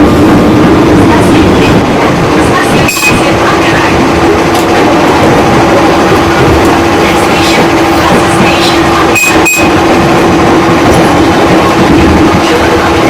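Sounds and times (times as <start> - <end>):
train rail and running noise: 0.0 - 13.0.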